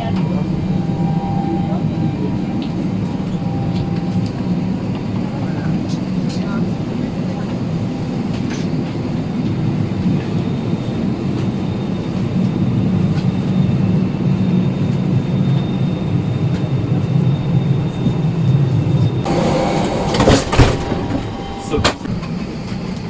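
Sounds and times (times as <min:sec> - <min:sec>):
aircraft cabin low rumble: 0:00.0 - 0:23.0.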